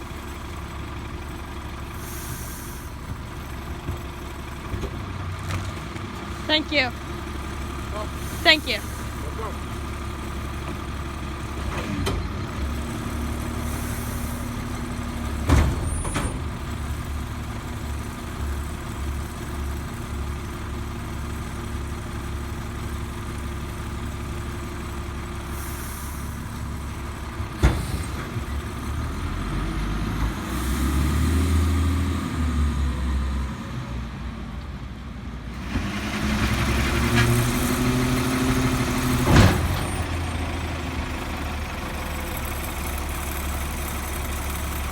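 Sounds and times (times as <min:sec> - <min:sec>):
garbage truck idling: 0:00.0 - 0:34.3, 0:36.3 - 0:44.9.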